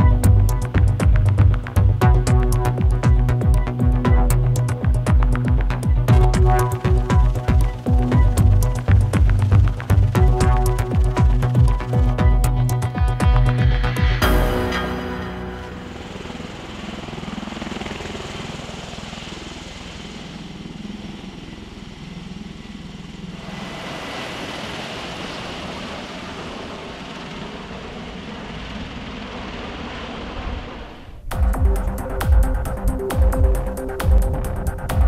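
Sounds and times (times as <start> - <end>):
engine low wavering hum: 0.0 - 35.0.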